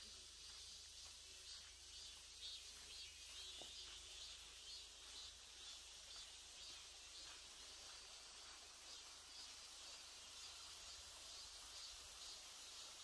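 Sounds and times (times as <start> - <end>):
forest ambience hiss: 0.0 - 13.0
insect chirping: 0.0 - 13.0.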